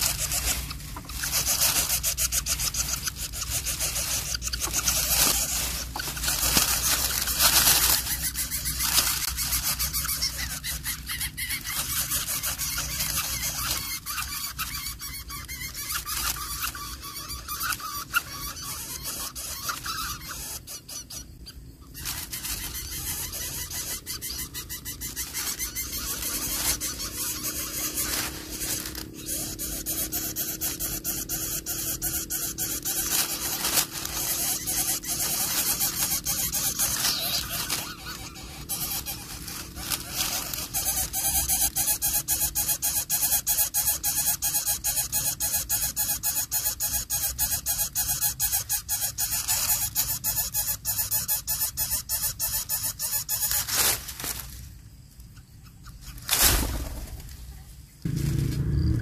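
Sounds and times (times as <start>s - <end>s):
dry grass rustling and scraping: 0.0s - 20.4s, 21.9s - 45.3s, 52.8s - 55.2s, 56.0s - 59.0s.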